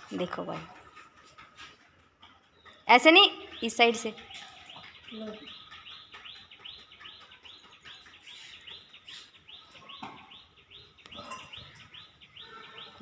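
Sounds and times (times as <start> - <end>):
bird chirping: 0.1 - 13.0.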